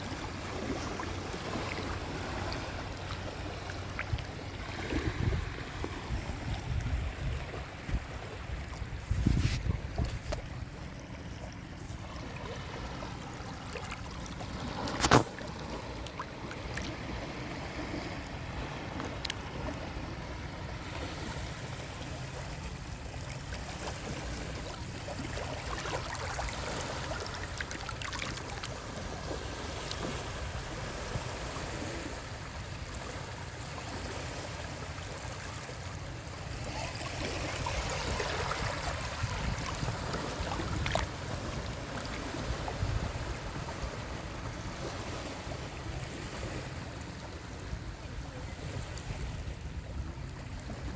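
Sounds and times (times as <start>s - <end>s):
waves washing against shore: 0.0s - 50.9s.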